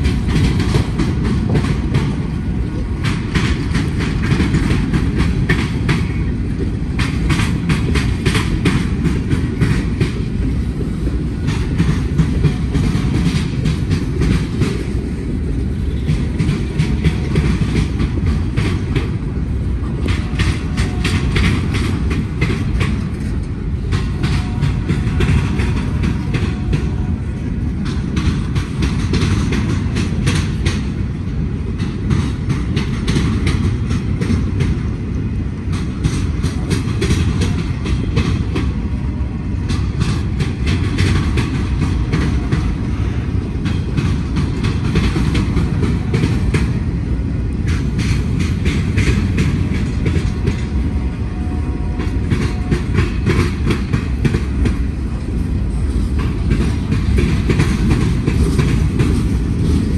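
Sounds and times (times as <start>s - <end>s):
low train rumble: 0.0s - 59.9s
train wheels clacking: 0.0s - 59.9s.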